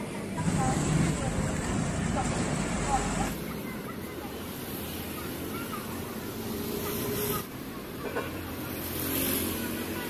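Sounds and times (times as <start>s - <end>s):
faint voices: 0.0s - 10.0s
traffic rumble: 0.0s - 10.0s.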